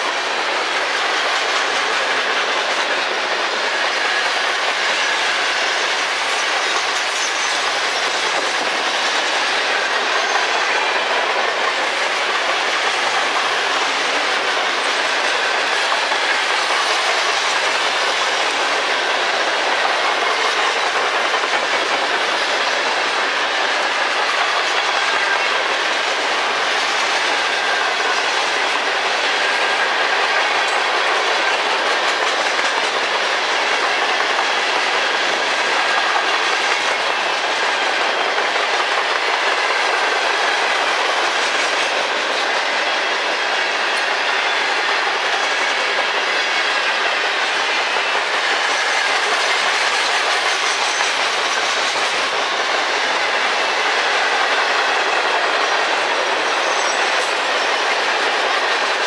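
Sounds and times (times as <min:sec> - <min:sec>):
steel wheels running on rails: 0:00.0 - 0:59.0.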